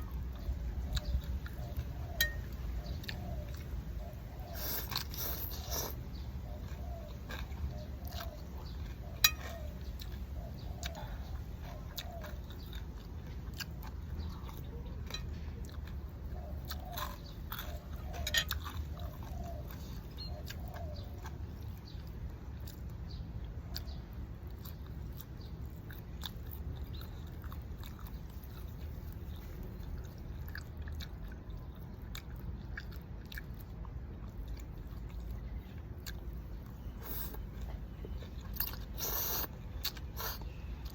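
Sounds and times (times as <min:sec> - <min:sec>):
person chewing and crunching: 0:00.0 - 0:40.9.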